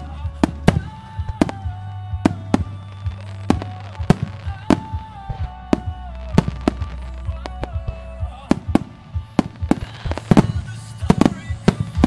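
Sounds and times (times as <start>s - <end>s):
music with low bass: 0.0s - 12.0s.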